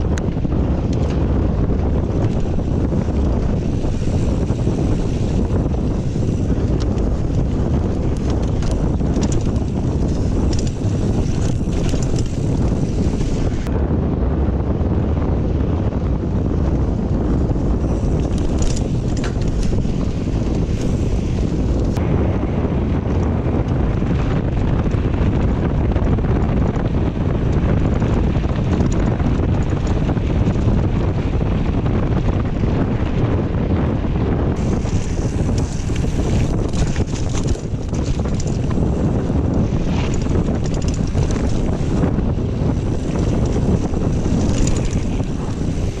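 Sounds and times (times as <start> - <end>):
bike clicks and rattles: 0.0 - 13.7, 15.5 - 46.0
wind buffeting microphone: 0.0 - 46.0.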